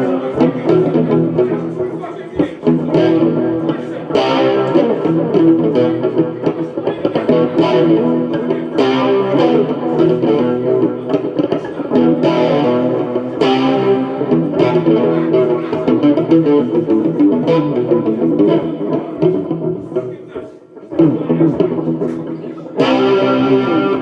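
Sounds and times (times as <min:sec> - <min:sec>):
guitar playing notes: 0:00.0 - 0:24.0.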